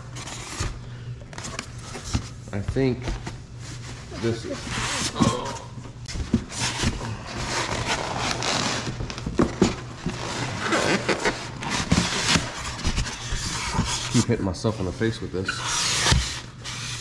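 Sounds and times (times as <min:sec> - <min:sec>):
cardboard and foam rustling: 0:00.1 - 0:17.0.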